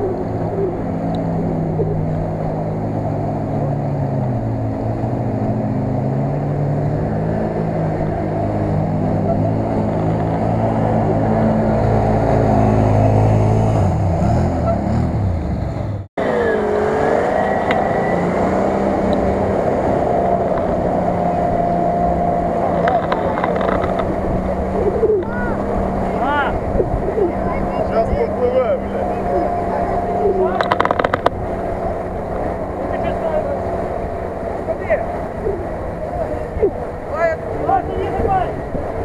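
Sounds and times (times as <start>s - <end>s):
off-road engines revving: 0.0s - 39.0s.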